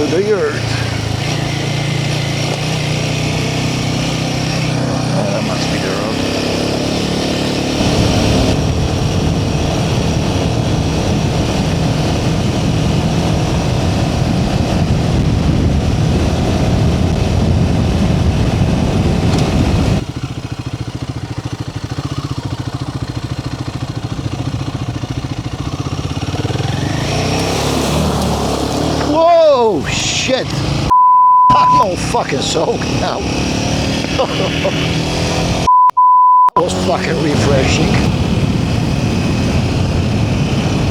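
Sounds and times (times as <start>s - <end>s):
motorcycle engine under load: 0.0s - 30.9s, 31.5s - 35.8s.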